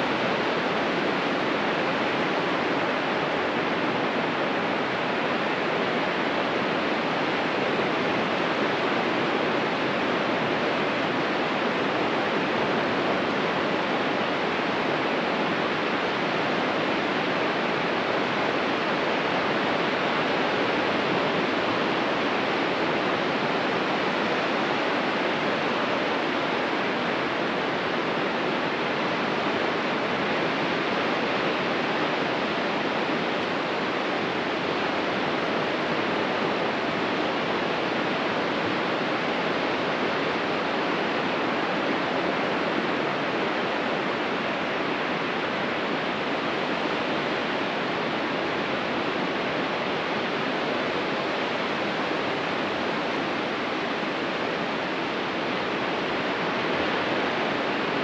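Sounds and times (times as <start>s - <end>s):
ocean surf: 0.0s - 58.0s.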